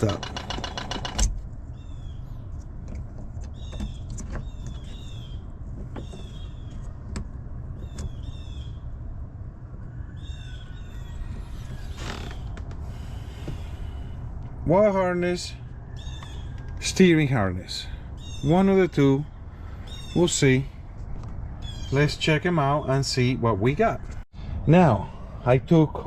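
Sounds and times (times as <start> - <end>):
steady low rumble: 1.3 - 26.0
birds chirping: 1.6 - 9.1, 9.8 - 26.0.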